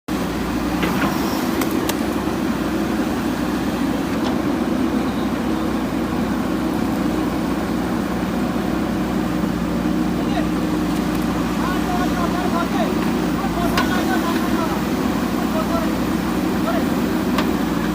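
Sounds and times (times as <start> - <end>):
diesel engine running: 0.1 - 17.9.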